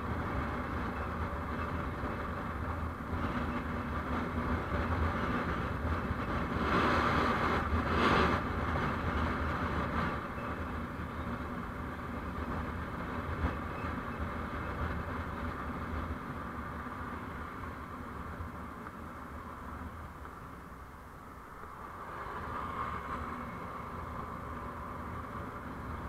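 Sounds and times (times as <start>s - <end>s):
vehicle road and engine noise: 0.0s - 26.0s.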